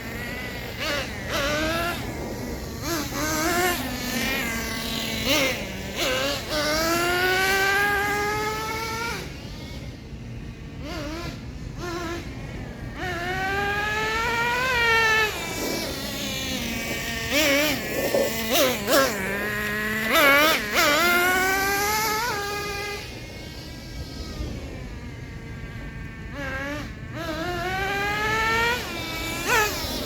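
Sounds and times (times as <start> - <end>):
nitro engine revving: 0.0 - 30.0.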